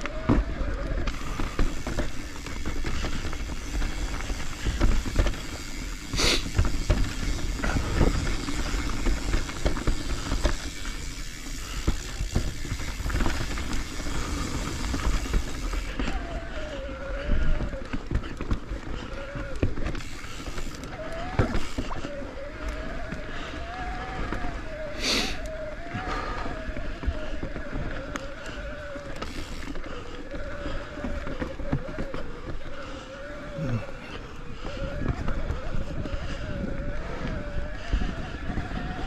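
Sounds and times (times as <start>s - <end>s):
bike rattling over bumps: 0.0s - 39.0s
tyres rolling over dirt: 0.0s - 39.0s.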